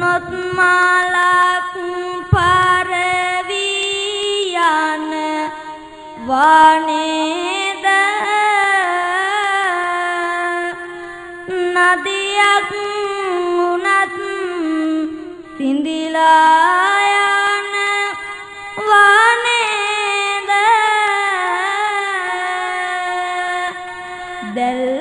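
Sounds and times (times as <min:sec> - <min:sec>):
child chanting verses through microphone: 0:00.0 - 0:25.0.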